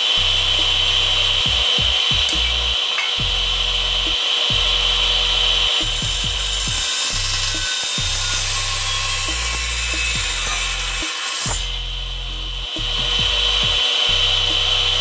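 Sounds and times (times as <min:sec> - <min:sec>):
electric saw whining: 0:00.0 - 0:15.0.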